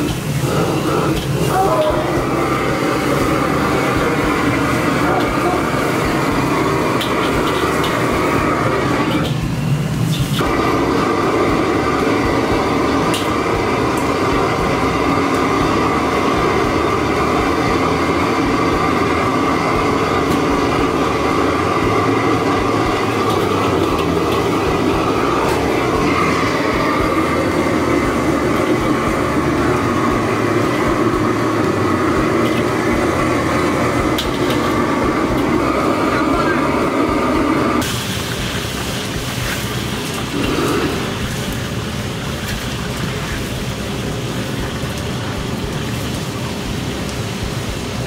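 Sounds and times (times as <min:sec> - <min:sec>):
gas burner roaring: 0:00.0 - 0:48.0.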